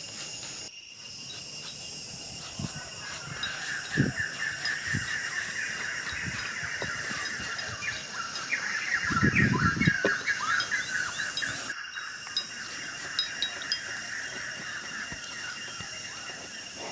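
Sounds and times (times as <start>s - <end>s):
high-pitched insect drone: 0.0s - 16.9s
small bird chirping: 1.2s - 16.9s.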